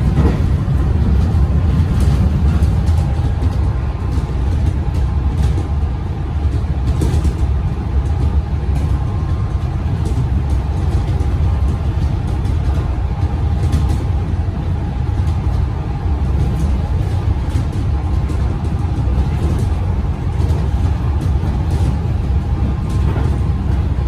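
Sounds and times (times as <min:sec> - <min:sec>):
electric train rumble: 0:00.0 - 0:24.0.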